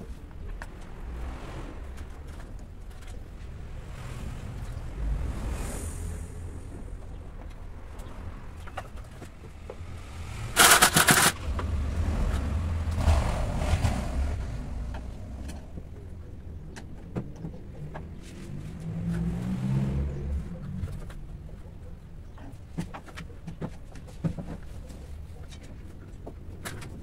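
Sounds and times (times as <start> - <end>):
passing vehicle engine rumbling: 0.0 - 22.4.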